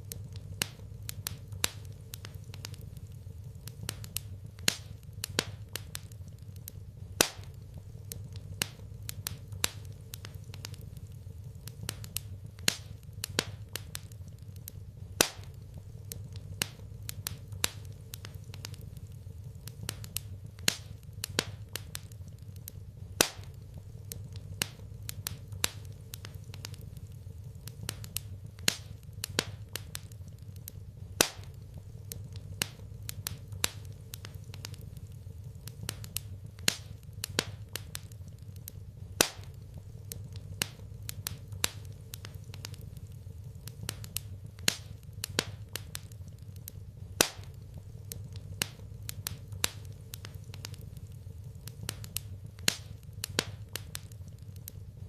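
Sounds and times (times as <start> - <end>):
steady low hum: 0.0 - 55.0
wood fire crackling: 0.0 - 55.0.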